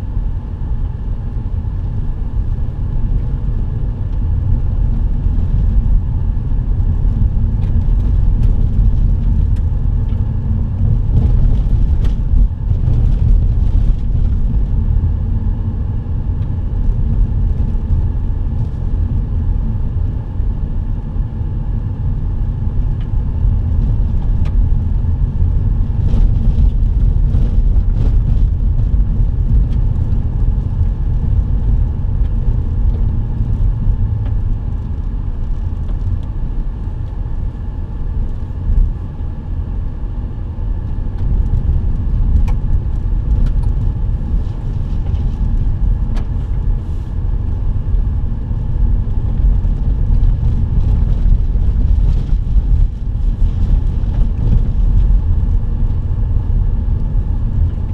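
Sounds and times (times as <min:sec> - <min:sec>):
vehicle rumbling on gravel: 0:00.0 - 0:57.9.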